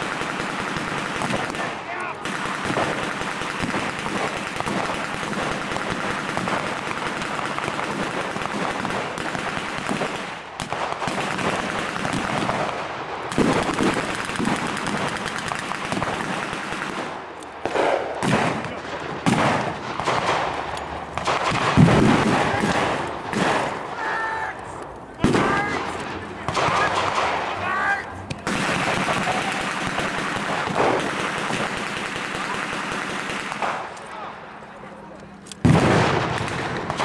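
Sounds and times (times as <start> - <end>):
rifle and machine gun fire: 0.0 - 24.5, 25.2 - 34.3, 35.6 - 37.0.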